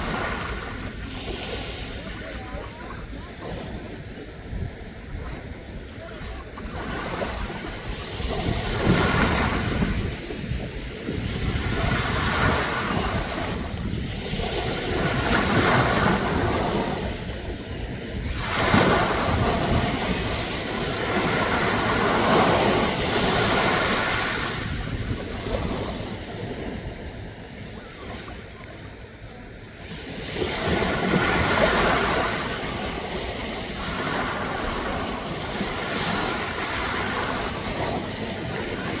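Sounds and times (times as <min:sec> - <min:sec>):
sea waves: 0:00.0 - 0:39.0
wind on the microphone: 0:00.0 - 0:39.0.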